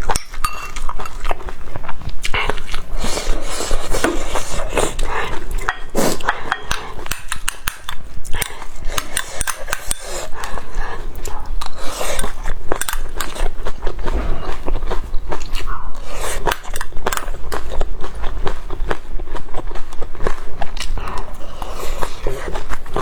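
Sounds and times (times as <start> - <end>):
person chewing crunchy food: 0.0 - 23.0.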